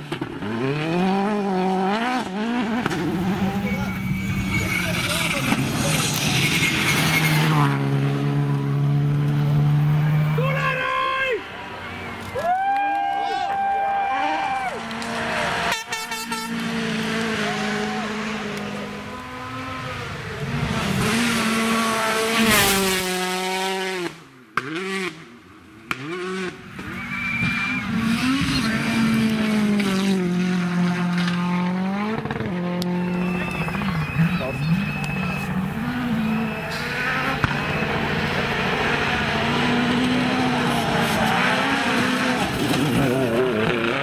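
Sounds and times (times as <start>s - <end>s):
rally car engines revving: 0.0s - 12.4s, 13.6s - 44.0s.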